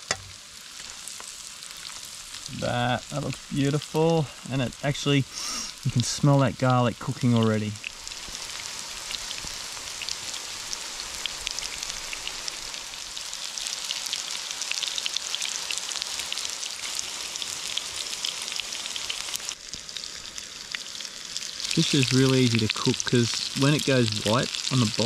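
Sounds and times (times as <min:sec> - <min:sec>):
fish cakes sizzling in oil: 0:00.0 - 0:25.0.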